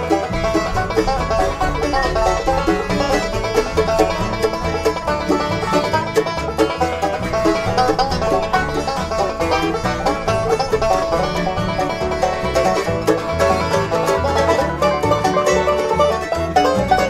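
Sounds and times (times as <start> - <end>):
banjo picking: 0.0 - 17.0
bass line: 0.0 - 17.0.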